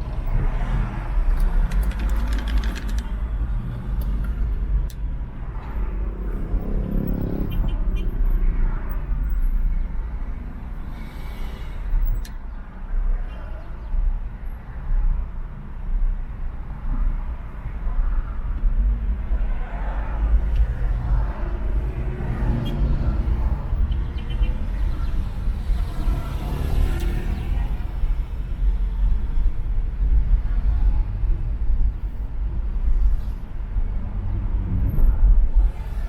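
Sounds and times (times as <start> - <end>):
car road noise rumble: 0.0 - 36.0
surrounding traffic: 0.0 - 36.0.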